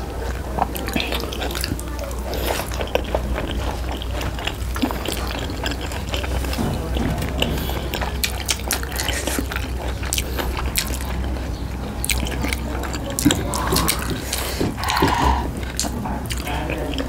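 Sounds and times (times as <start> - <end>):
wet chewing and mouth-smacking: 0.0 - 17.0.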